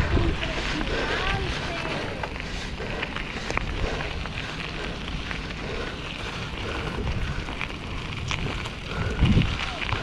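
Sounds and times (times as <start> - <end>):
bike clicks and rattles: 0.0 - 10.0
bike rolling over dirt trail: 0.0 - 10.0
wind buffeting microphone: 0.0 - 10.0.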